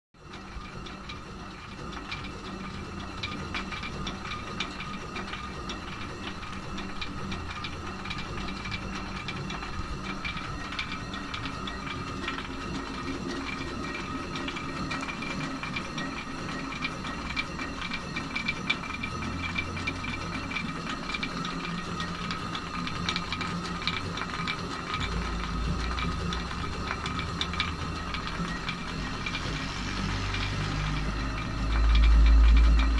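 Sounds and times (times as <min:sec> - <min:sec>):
millstone turning: 0:00.2 - 0:32.9
mill feed rattling ticks: 0:00.3 - 0:32.9.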